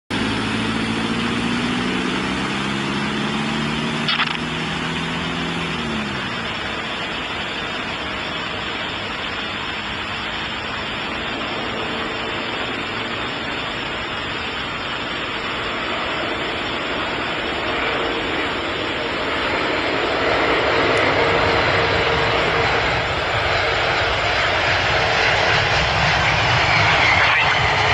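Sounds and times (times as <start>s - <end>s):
distant jet engine rumble: 0.1s - 27.9s
passing vehicle engine hum: 0.1s - 27.9s.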